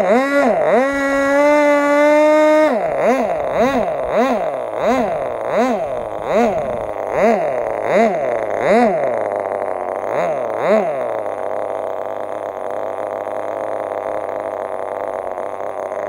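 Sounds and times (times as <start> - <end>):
model aircraft engine revving: 0.0 - 16.0.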